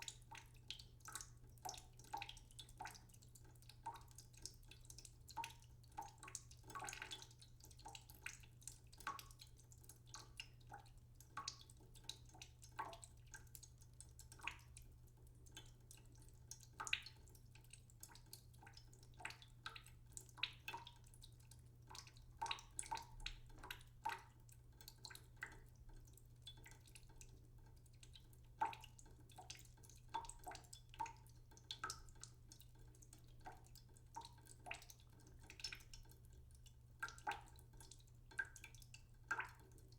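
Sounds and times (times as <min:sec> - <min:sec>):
water dripping: 0:00.0 - 0:39.9.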